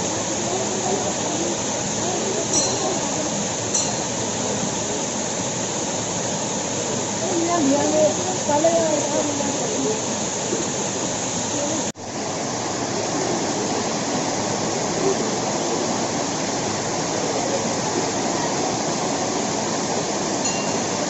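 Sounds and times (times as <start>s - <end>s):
waterfall pouring into pool: 0.0s - 21.0s.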